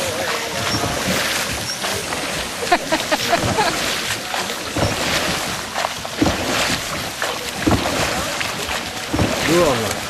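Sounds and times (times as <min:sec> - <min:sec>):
water rushing and splashing: 0:00.0 - 0:10.0.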